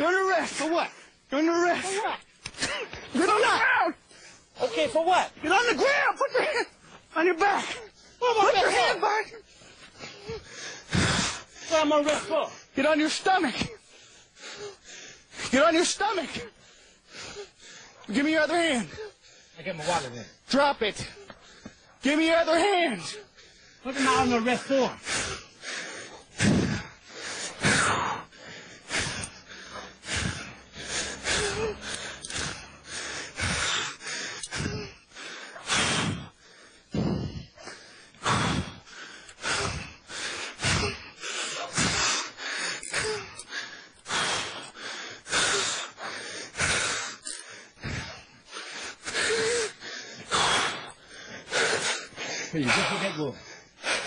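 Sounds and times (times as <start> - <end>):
men panting heavily: 0.0 - 54.0.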